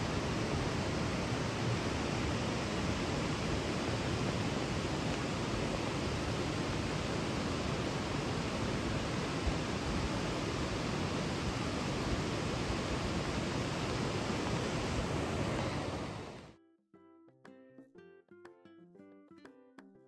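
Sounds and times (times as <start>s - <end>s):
river water rushing: 0.0s - 16.5s.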